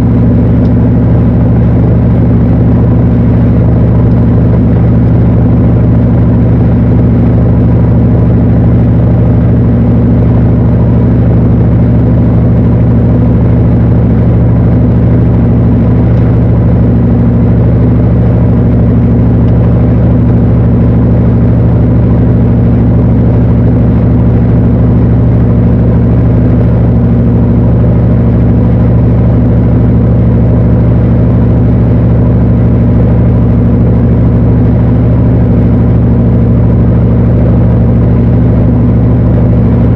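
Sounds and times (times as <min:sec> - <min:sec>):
washing machine hum: 0:00.0 - 0:39.9.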